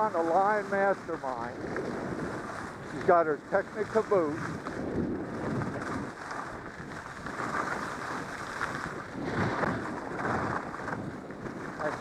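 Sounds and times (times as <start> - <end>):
skis scraping on snow: 0.0 - 12.0
wind on microphone: 0.0 - 12.0.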